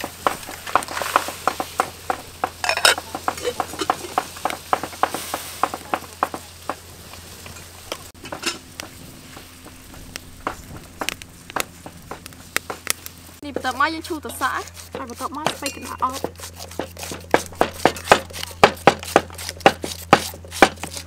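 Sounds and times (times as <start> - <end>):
chillies popping and crackling: 0.0 - 21.0.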